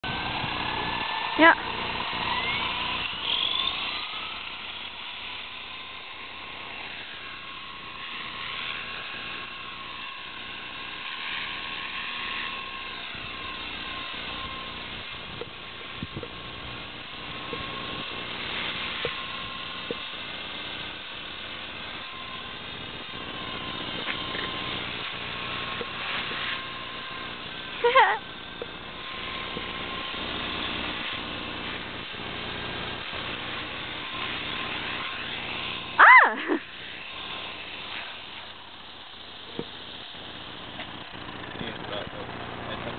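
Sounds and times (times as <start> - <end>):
rc helicopter rotor whine: 0.0 - 42.9.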